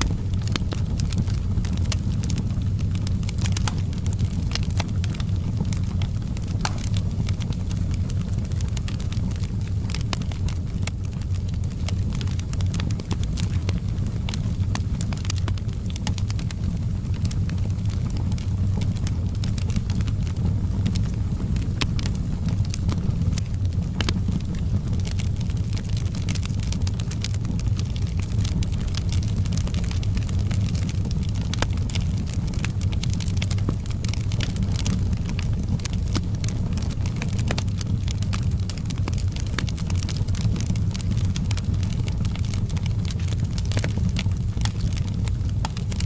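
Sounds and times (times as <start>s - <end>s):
fire crackling and popping: 0.0s - 46.0s.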